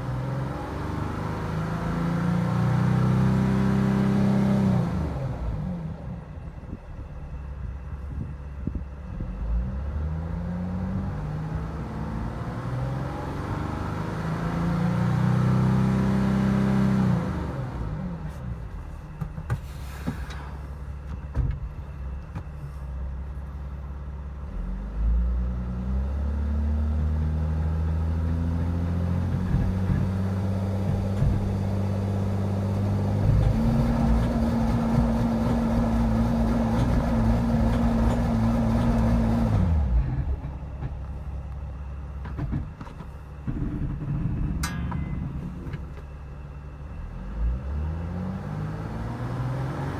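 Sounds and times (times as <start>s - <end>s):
van engine revving: 0.0s - 21.2s, 24.3s - 49.9s.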